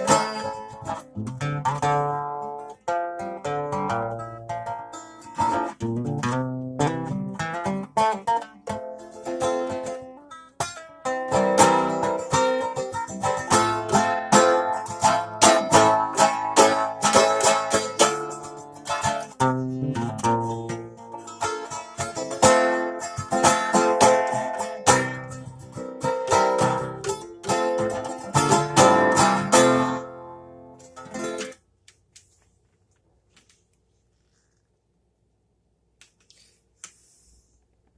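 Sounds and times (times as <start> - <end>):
plucked guitar-like instrument: 0.0 - 31.6.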